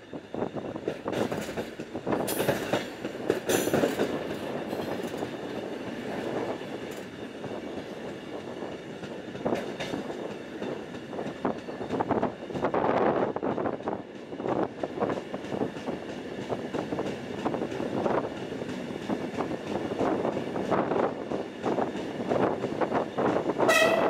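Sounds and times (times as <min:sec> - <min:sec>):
train rumble and rail clatter: 0:00.0 - 0:24.0.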